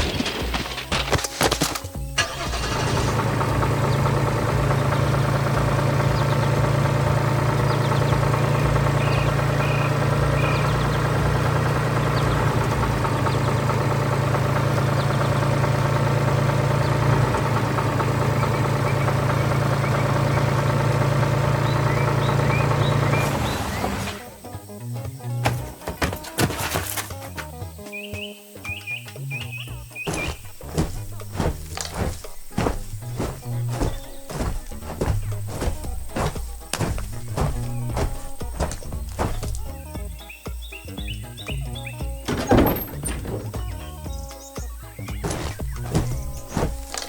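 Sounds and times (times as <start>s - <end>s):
farm machine engine running: 0.0s - 24.4s, 25.4s - 27.5s, 30.0s - 40.1s, 41.0s - 44.4s, 45.0s - 47.0s.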